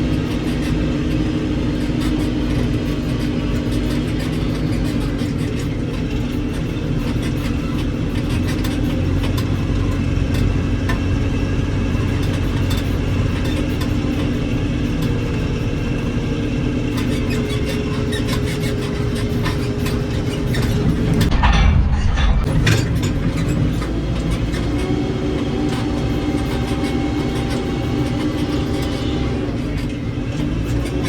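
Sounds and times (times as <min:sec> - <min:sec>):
diesel engine running steadily: 0:00.0 - 0:21.4, 0:22.2 - 0:31.0.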